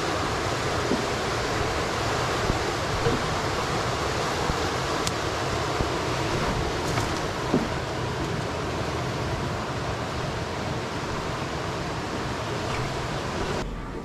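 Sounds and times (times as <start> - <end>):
river rapids rushing: 0.0 - 13.6.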